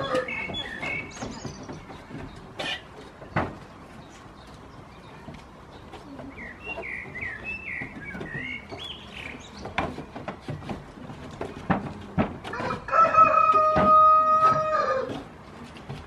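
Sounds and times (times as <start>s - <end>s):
goats knocking on wooden bench: 0.0s - 16.0s.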